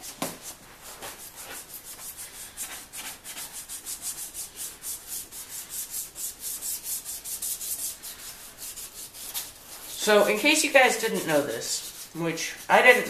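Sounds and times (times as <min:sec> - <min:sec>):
sandpaper rubbing wet plastic: 0:00.0 - 0:13.0.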